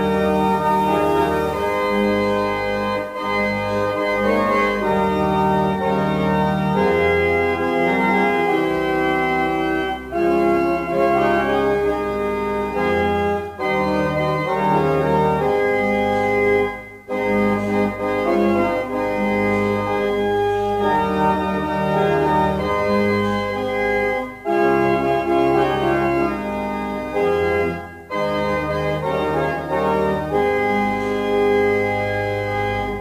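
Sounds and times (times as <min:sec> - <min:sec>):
organ playing slow chords: 0:00.0 - 0:33.0.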